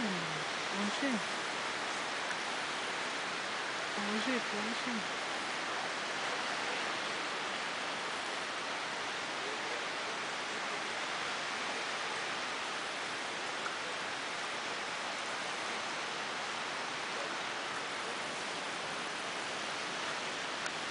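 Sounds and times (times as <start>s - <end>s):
steady hiss: 0.0s - 20.9s.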